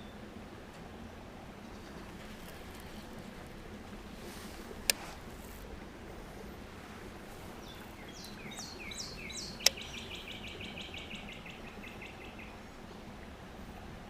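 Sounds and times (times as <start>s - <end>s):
songbird singing: 0.0s - 0.4s, 1.5s - 5.6s, 6.2s - 13.6s.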